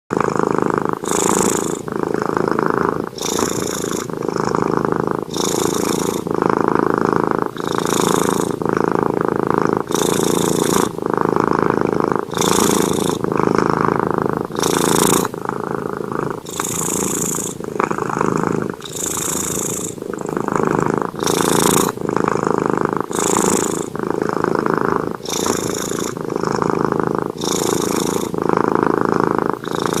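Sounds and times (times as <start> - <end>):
cat purring: 0.1 - 30.0.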